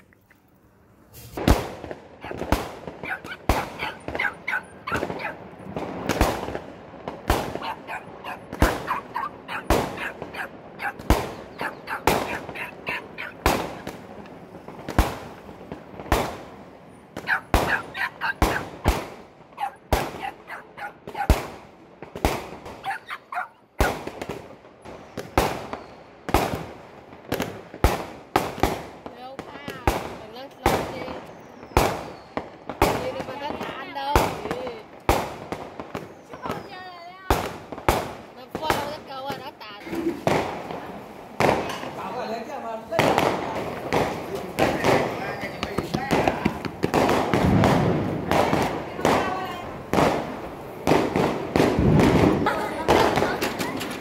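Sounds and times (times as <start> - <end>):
firecracker crackling: 0.0 - 54.0
firecrackers banging: 0.7 - 54.0.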